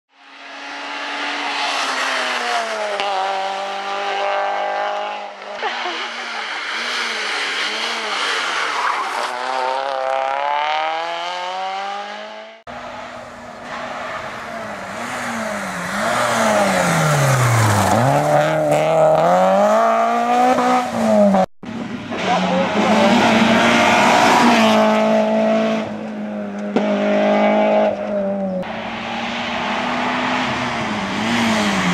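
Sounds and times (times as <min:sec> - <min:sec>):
rally car engine revving past: 0:00.5 - 0:13.0, 0:13.6 - 0:21.5, 0:22.1 - 0:31.9.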